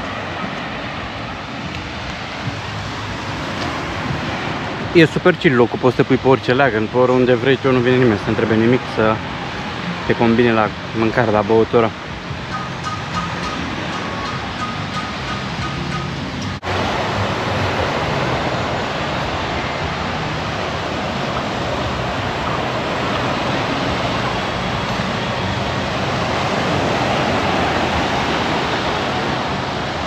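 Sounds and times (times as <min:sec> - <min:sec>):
small waves breaking on sand: 0:00.0 - 0:16.0, 0:16.6 - 0:30.0.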